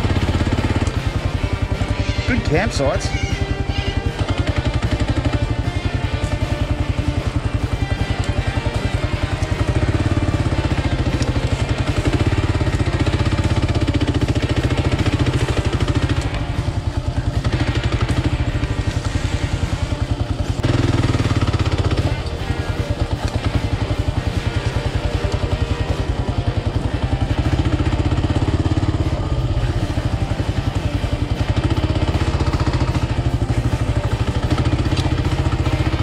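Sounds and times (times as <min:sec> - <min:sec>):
motorcycle engine at low speed: 0:00.0 - 0:36.0.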